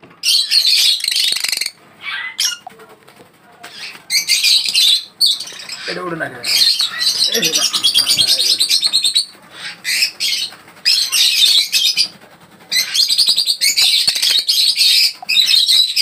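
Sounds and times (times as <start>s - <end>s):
small birds chirping and trilling: 0.1s - 16.0s.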